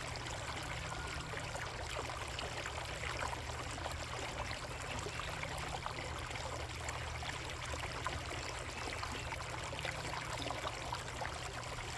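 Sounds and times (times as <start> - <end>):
water trickling and splashing: 0.0 - 11.9.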